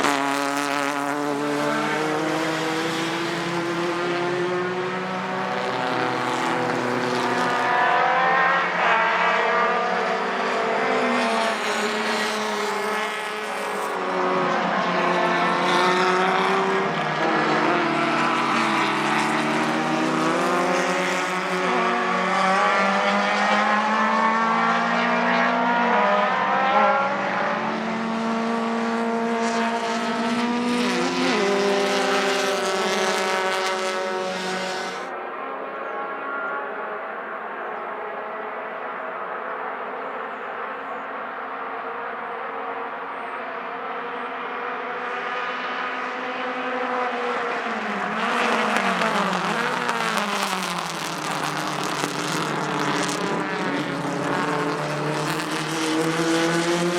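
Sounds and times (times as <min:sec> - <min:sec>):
racing car engines at full throttle: 0:00.0 - 0:56.9.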